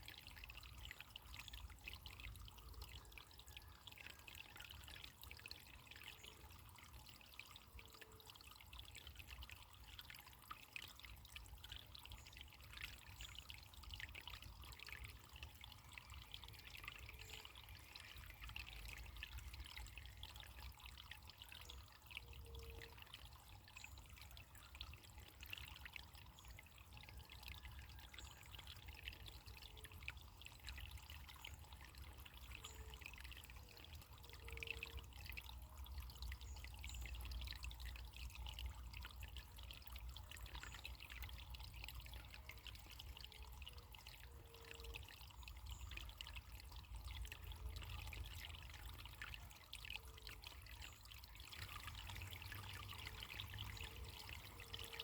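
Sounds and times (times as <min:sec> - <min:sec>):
faint trickling water: 0:00.0 - 0:55.0.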